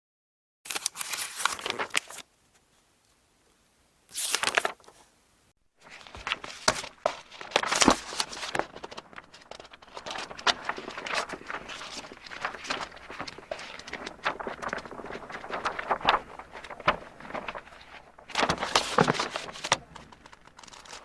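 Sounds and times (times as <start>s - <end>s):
book pages flipping: 0.7s - 2.2s, 4.1s - 5.0s, 5.8s - 21.0s.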